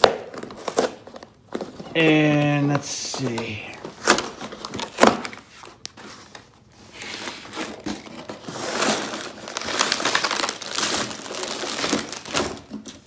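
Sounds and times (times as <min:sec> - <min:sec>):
plastic bags crinkling and clicking: 0:00.0 - 0:13.0.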